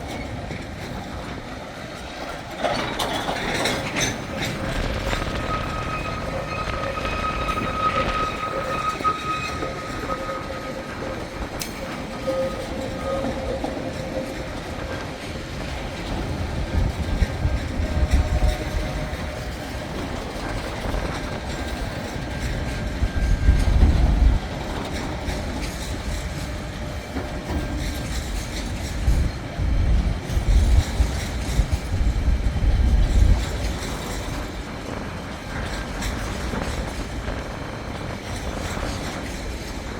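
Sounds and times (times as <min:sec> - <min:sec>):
freight train wheels clattering: 0:00.0 - 0:39.9
train low rumble: 0:00.0 - 0:39.9.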